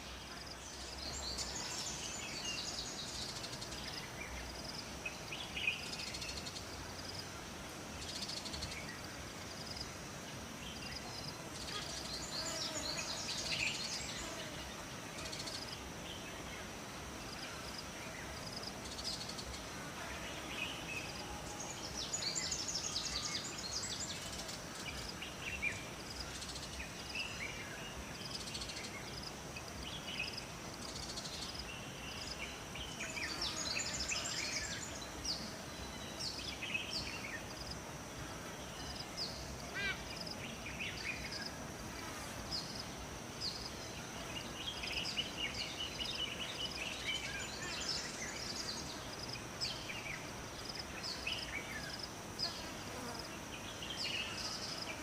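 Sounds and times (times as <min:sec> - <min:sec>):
faint hiss: 0:00.0 - 0:55.0
high insect buzz: 0:00.0 - 0:55.0.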